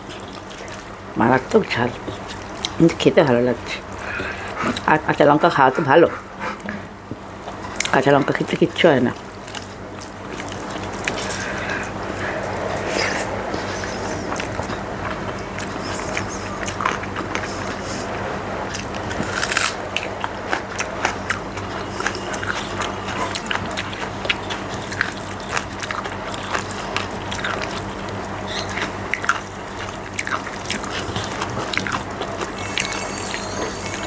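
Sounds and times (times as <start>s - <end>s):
chewing with wet mouth clicks: 0.0s - 34.0s
steady low hum: 0.0s - 34.0s.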